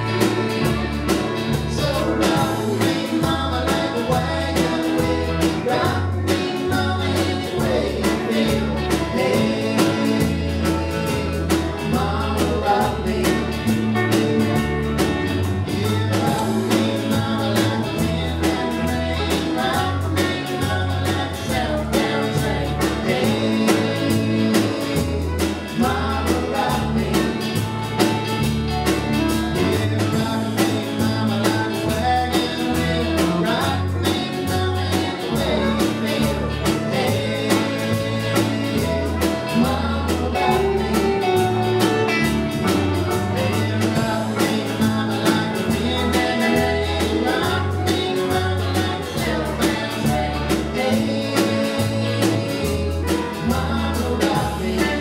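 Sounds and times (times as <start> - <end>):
drums: 0.0 - 55.0
electric bass: 0.0 - 55.0
person singing: 0.0 - 55.0.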